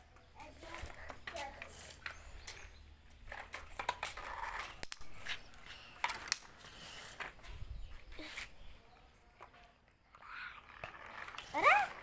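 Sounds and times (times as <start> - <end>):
toy scraping on concrete: 0.4 - 12.0.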